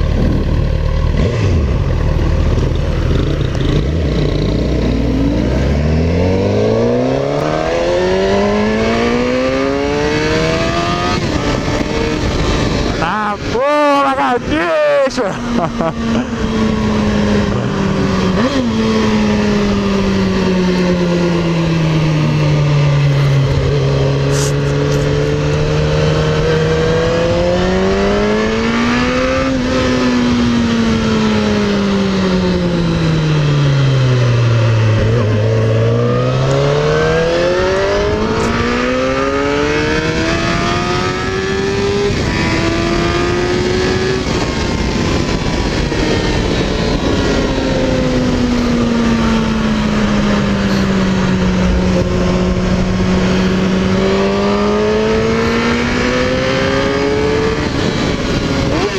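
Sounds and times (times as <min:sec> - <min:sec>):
motorcycle engine revving: 0:00.0 - 0:58.9
wind noise: 0:00.0 - 0:58.9.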